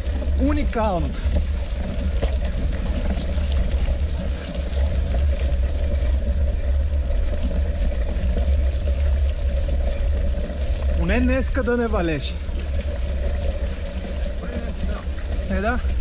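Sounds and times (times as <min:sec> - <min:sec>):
bike clicks and rattles: 0:00.0 - 0:16.0
bike rumbling over rough ground: 0:00.0 - 0:16.0.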